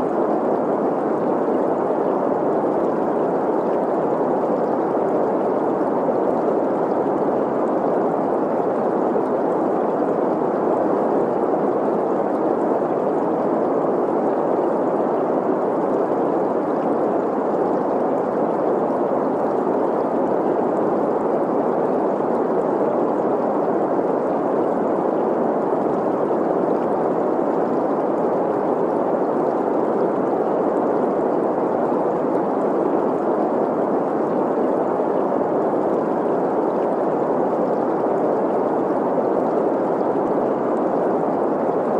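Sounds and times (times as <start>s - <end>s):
gurgling stream: 0.0s - 41.9s
steady noise hiss: 0.0s - 41.9s.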